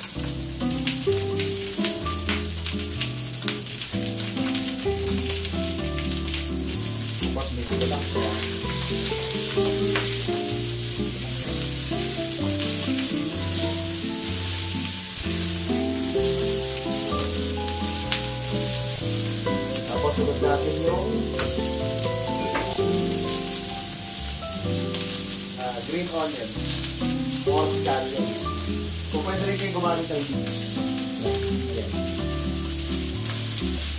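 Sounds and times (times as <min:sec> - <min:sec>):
background music with bass line: 0:00.0 - 0:33.9
meat and onions sizzling in wok: 0:00.0 - 0:33.9.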